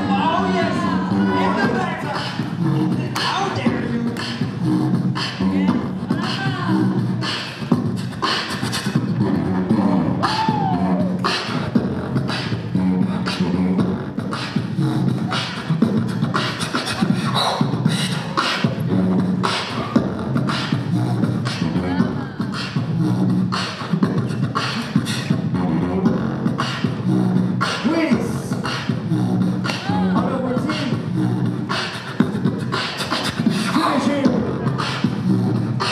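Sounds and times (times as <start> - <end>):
beatboxing through a microphone: 0.0 - 35.9.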